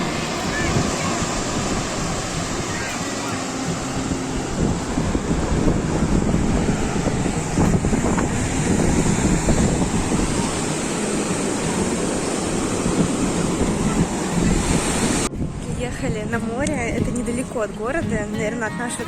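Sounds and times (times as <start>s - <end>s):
sea surf breaking: 0.0s - 19.0s
wind buffeting microphone: 0.0s - 19.0s.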